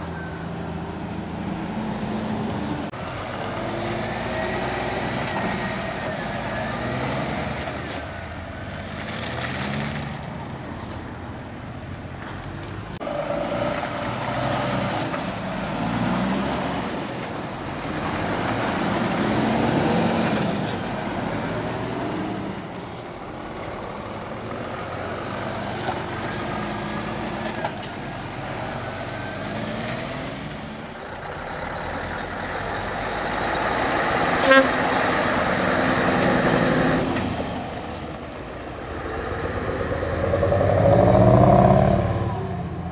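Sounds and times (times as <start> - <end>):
trucks driving past: 0.0 - 42.9.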